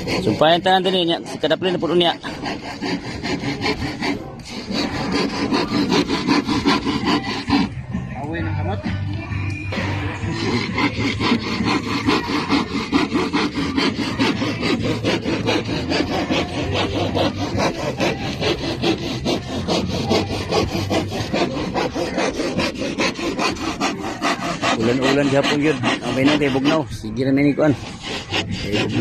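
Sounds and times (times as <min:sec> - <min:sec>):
handsaw cutting plywood: 0:00.0 - 0:08.0, 0:09.7 - 0:29.0.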